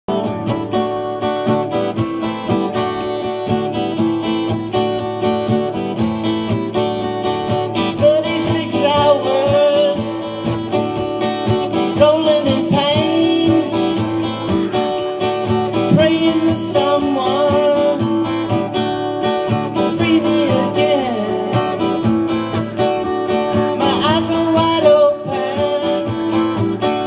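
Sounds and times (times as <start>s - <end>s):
acoustic guitar plucked and strummed: 0.1s - 27.0s.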